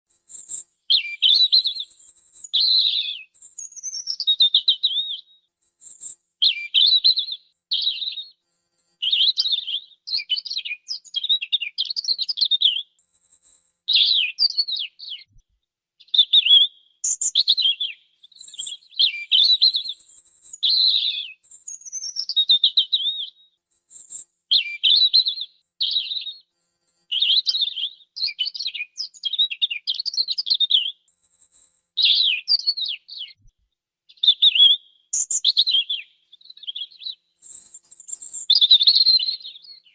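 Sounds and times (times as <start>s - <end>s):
robin singing: 0.1s - 15.3s, 16.0s - 26.3s, 27.0s - 33.4s, 34.2s - 39.9s.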